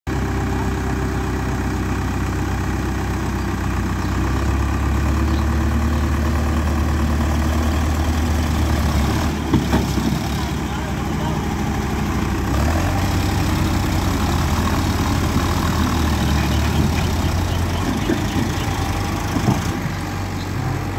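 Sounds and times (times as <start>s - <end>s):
tractor engine running: 0.1s - 20.9s.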